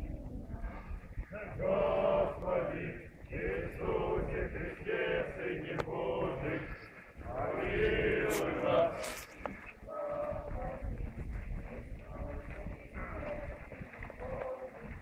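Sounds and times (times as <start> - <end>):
group chanting a prayer: 1.3 - 11.0, 12.1 - 15.0.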